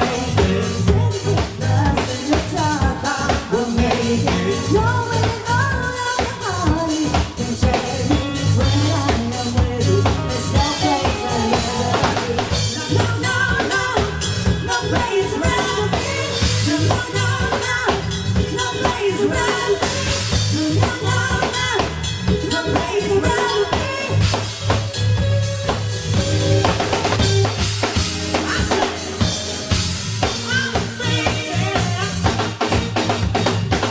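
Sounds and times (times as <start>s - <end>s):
pop dance music: 0.0s - 24.1s, 28.2s - 32.3s
person singing: 0.0s - 24.4s, 28.2s - 32.5s
drum kit beat: 0.0s - 33.9s.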